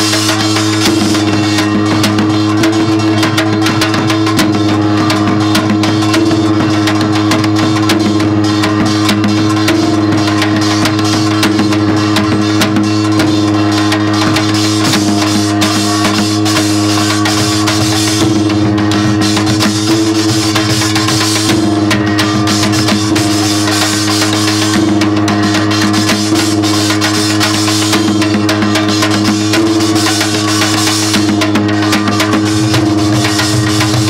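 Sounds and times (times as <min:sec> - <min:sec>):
drums beaten in rapid rhythm: 0:00.0 - 0:34.0
low ringing tone: 0:00.0 - 0:34.0
small gong clanging: 0:00.0 - 0:34.0.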